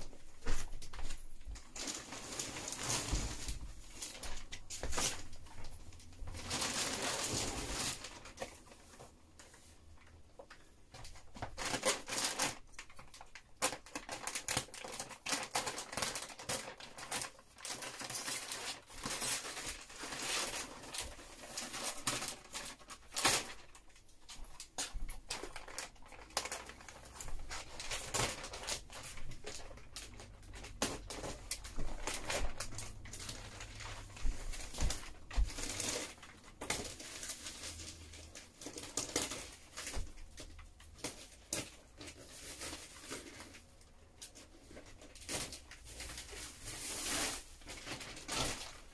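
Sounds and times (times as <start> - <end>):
plastic wrapping crinkling: 0.0 - 48.9.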